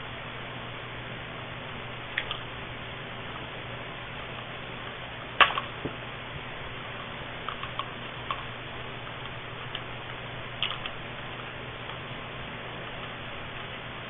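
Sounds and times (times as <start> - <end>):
low hum: 0.0 - 14.0
steady hiss: 0.0 - 14.0.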